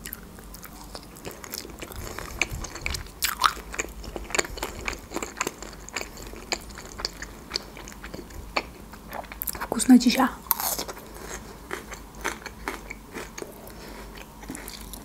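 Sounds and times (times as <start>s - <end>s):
crunchy chewing: 0.0s - 9.7s, 10.4s - 15.0s.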